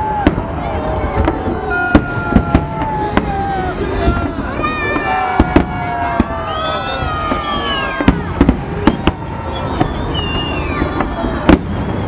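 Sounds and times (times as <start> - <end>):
continuous fireworks din: 0.0 - 12.0
whistling fireworks gliding in pitch: 0.0 - 12.0.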